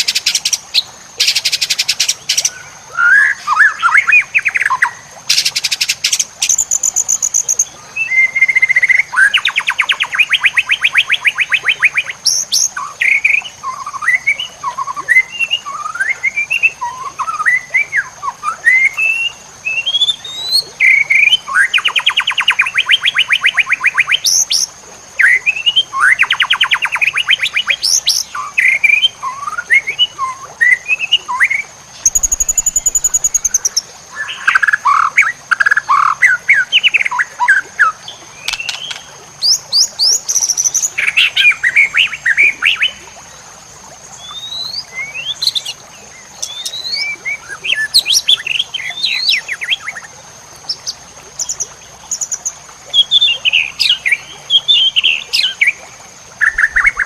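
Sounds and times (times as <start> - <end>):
songbird whistles and trills: 0.0 - 43.1, 44.1 - 45.8, 46.4 - 55.8, 56.4 - 57.0.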